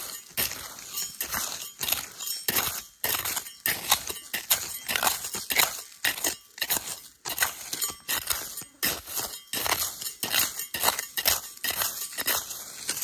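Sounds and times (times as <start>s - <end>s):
trowel scraping gravelly soil: 0.0s - 13.0s.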